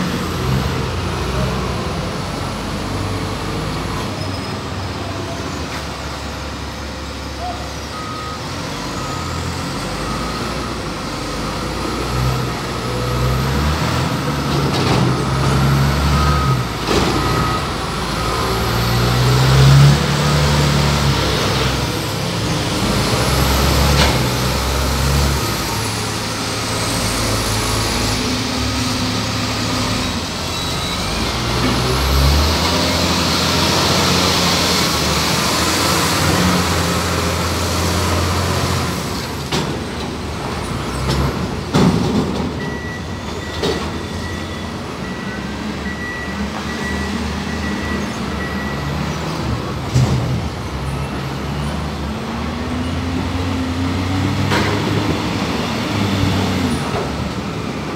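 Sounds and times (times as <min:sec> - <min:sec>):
heavy diesel truck engines: 0:00.0 - 0:57.9.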